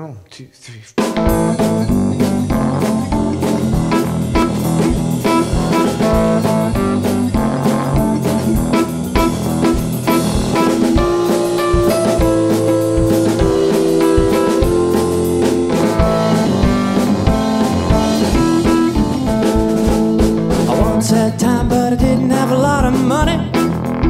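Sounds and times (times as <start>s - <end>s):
drum kit steady beat: 1.0s - 24.0s
electric piano chords: 1.2s - 21.3s.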